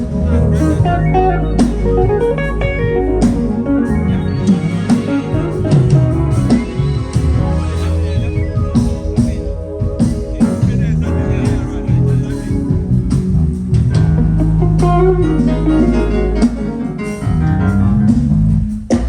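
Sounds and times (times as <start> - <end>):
guitar lines: 0.0 - 18.4
bass: 0.0 - 19.0
drum hits: 0.0 - 19.0.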